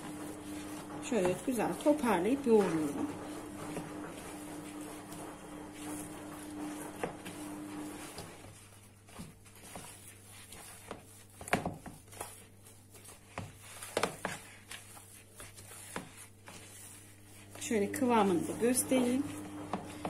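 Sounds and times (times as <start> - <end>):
dough slapping and squishing: 0.0 - 20.0.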